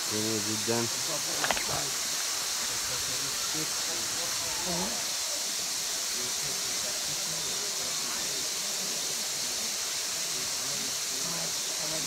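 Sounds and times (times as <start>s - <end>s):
high-pitched waterfall hiss: 0.0s - 12.0s.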